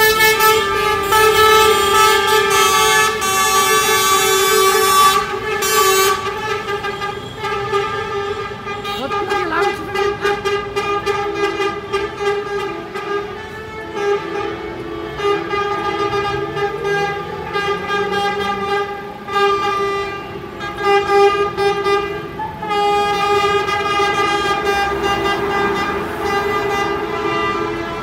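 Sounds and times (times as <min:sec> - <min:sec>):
coach engines: 0:00.0 - 0:28.0
coach horns blasting: 0:00.0 - 0:28.0.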